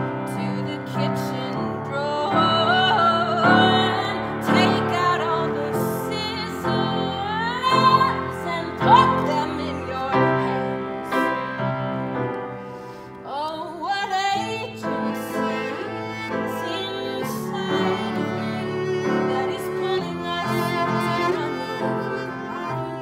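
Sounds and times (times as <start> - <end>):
woman singing: 0.0 - 12.0, 13.2 - 23.0
bowed cello: 0.0 - 23.0
upright piano: 0.0 - 23.0.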